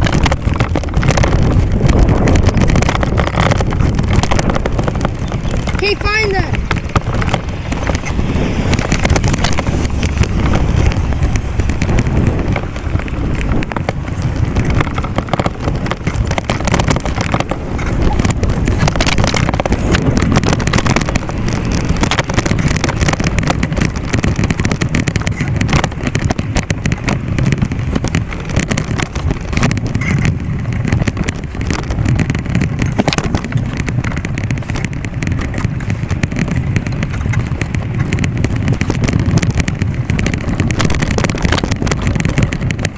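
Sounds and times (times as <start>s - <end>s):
bicycle knocks and rattles: 0.0s - 42.9s
wind buffeting microphone: 0.0s - 42.9s.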